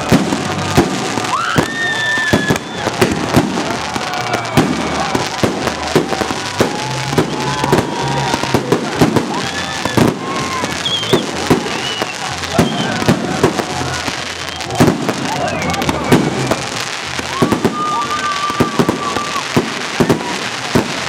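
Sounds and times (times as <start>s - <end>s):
fireworks bangs and cracks: 0.0s - 21.0s
fireworks whistling: 0.0s - 21.0s.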